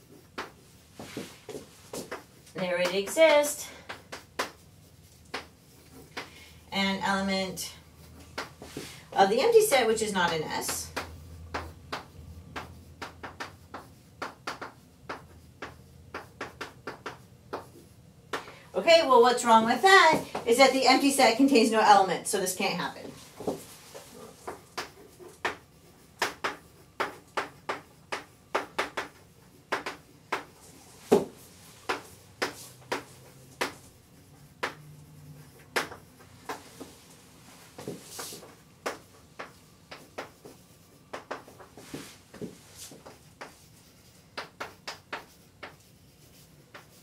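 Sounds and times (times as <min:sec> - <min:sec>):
chalk writing on blackboard: 0:00.0 - 0:18.5, 0:22.8 - 0:47.0.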